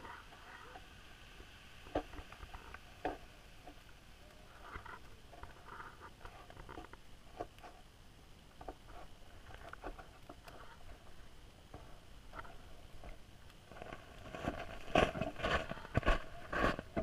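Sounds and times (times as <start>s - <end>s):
soft underwater clicks and crackles: 0.0s - 17.0s.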